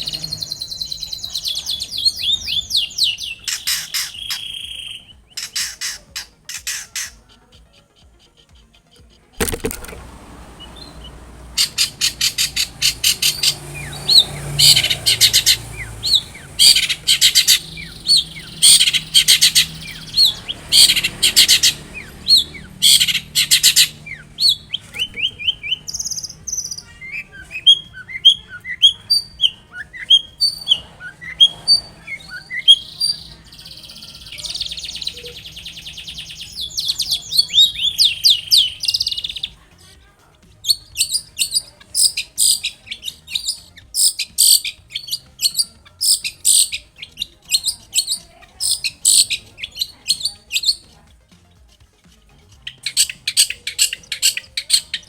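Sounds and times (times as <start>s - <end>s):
shrike singing: 0.0s - 7.4s, 9.2s - 39.9s, 40.5s - 51.0s, 52.4s - 55.0s.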